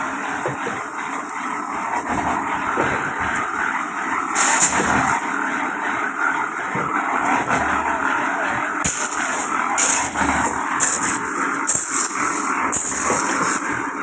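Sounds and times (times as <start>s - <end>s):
machine running: 0.0s - 14.0s.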